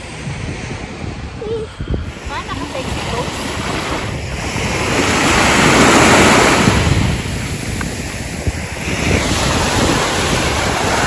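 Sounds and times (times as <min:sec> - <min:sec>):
sea waves washing on shore: 0:00.0 - 0:11.0
wind buffeting microphone: 0:00.0 - 0:11.0.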